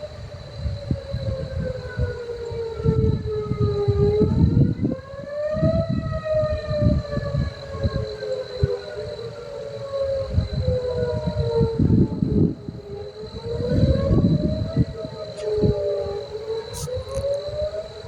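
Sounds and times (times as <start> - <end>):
low gusty rumbling: 0.0 - 9.2, 10.1 - 18.0
warning siren wailing: 0.0 - 18.0.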